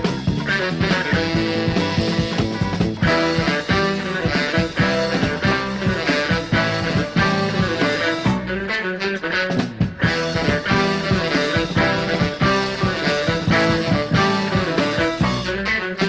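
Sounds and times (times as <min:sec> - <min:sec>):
band music with guitar: 0:00.0 - 0:16.0.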